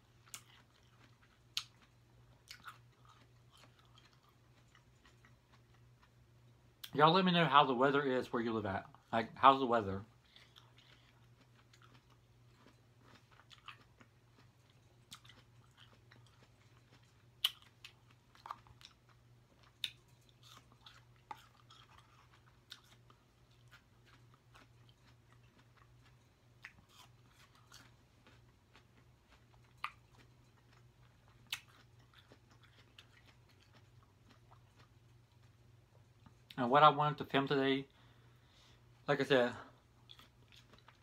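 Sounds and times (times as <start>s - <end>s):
person chewing fruit: 0.0s - 7.3s, 8.8s - 36.6s, 38.0s - 41.0s
steady low hum: 0.0s - 41.0s.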